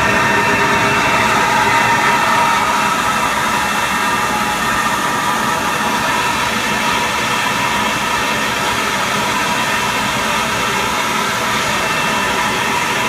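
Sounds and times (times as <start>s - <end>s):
parts washer running: 0.0s - 13.0s.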